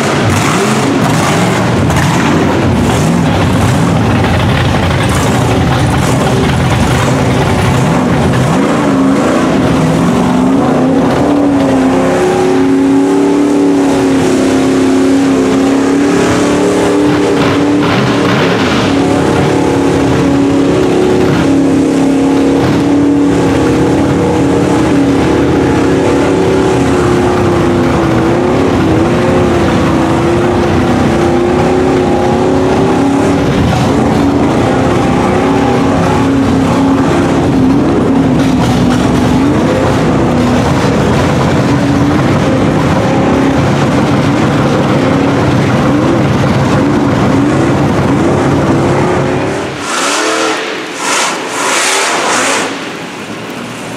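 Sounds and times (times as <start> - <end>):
truck engine running under load: 0.0 - 53.9
water splashing around wheels: 0.0 - 53.9.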